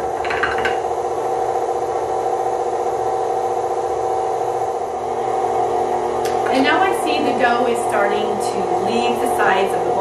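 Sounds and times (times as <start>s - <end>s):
stand mixer motor whirring: 0.0s - 10.0s.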